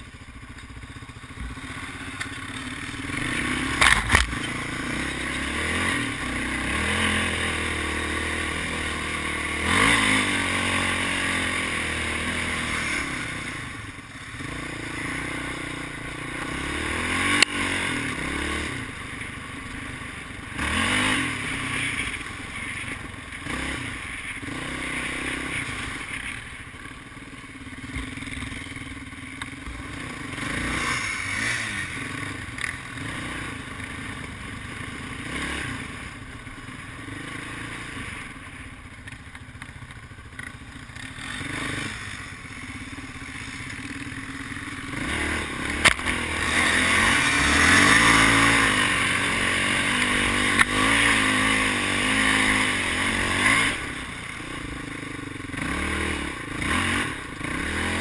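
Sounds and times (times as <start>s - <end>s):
quad engine revving: 1.1s - 38.9s, 40.3s - 58.0s.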